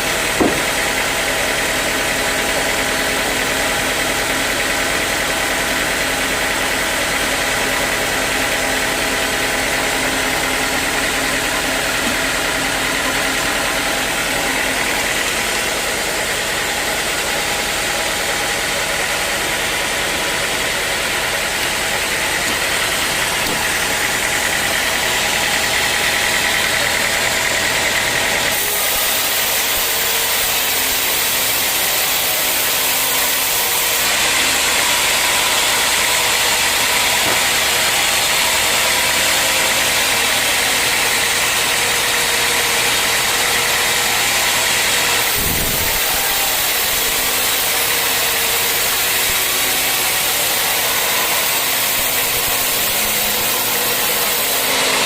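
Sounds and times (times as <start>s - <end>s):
saw cutting wood: 0.0s - 55.0s.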